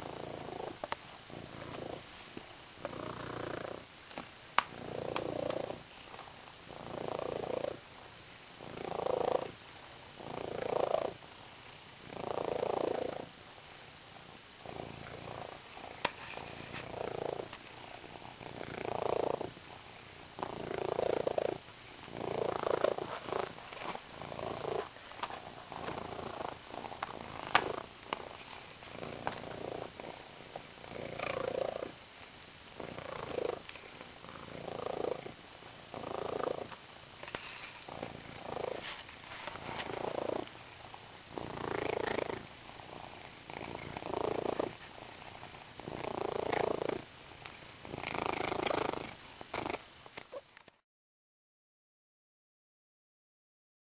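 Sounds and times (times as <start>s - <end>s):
cat purring: 0.0s - 3.9s, 4.6s - 32.0s, 32.6s - 50.5s.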